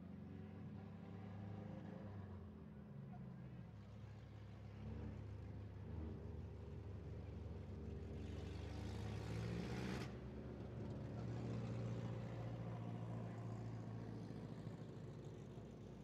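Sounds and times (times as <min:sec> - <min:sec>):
race car engines: 0:00.1 - 0:16.0.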